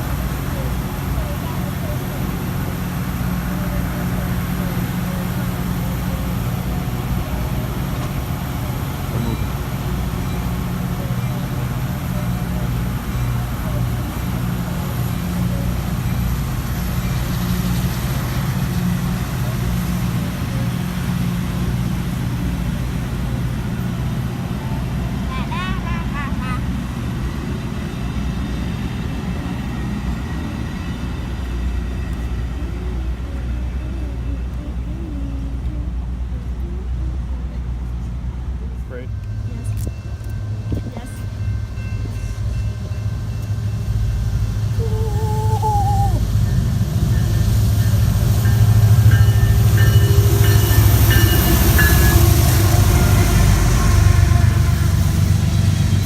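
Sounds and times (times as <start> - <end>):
diesel locomotive engine running: 0.0 - 56.0
train rumbling on track: 0.0 - 56.0.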